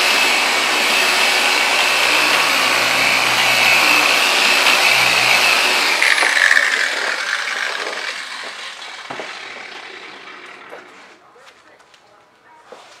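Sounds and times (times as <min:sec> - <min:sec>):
car polisher running: 0:00.0 - 0:11.2
polisher whine gliding down: 0:00.0 - 0:11.2.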